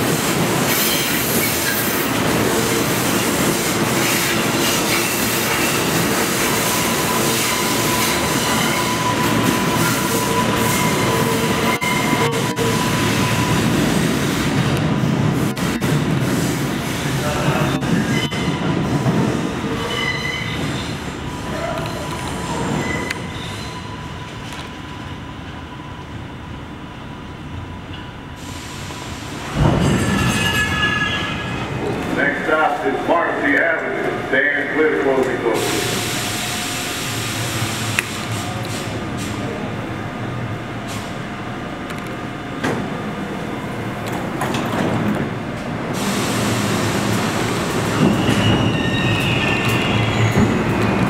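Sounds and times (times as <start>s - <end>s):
subway train rumble: 0.0s - 51.0s.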